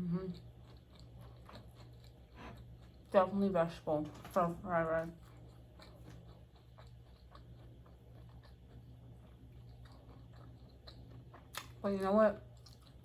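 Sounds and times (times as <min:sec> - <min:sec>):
faint chewing: 0:00.0 - 0:13.0
low steady hum: 0:00.0 - 0:13.0.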